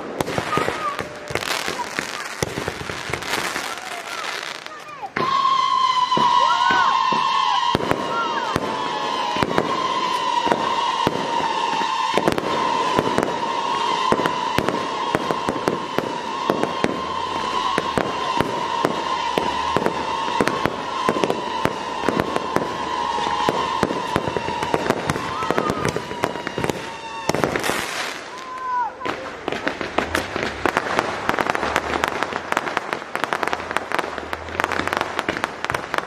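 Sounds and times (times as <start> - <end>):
fireworks popping and banging: 0.0 - 36.0
high firework whistle: 0.0 - 36.0.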